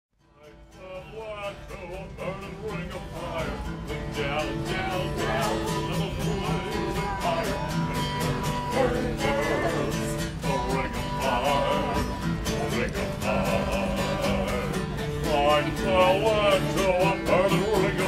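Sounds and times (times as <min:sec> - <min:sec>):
acoustic guitar strumming: 0:00.2 - 0:18.0
man singing: 0:00.2 - 0:18.0.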